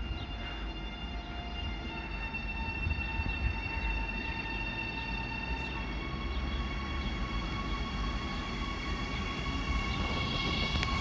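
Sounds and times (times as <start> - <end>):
electric train rumble: 0.0 - 11.0
train whining tones: 0.0 - 11.0.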